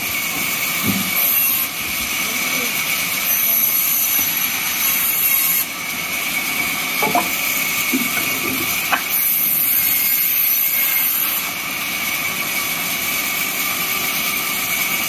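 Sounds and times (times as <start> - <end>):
band saw cutting log: 0.0 - 15.0.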